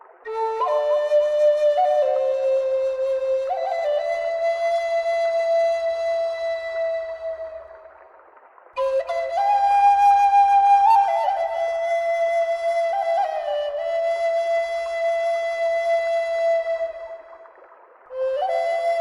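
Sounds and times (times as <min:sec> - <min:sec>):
bamboo flute melody: 0:00.2 - 0:08.1, 0:08.8 - 0:19.0.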